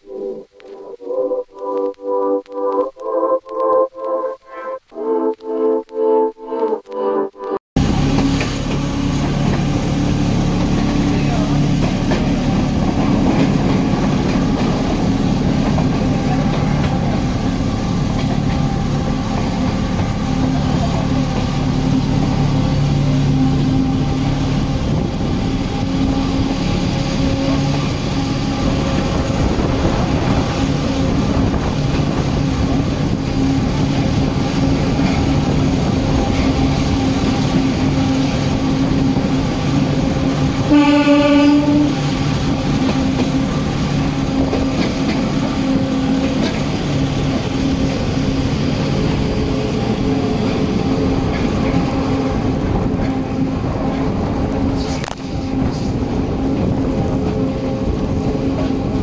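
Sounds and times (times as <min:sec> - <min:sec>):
electric train hum: 0:00.0 - 0:59.0
train rumbling: 0:07.8 - 0:59.0.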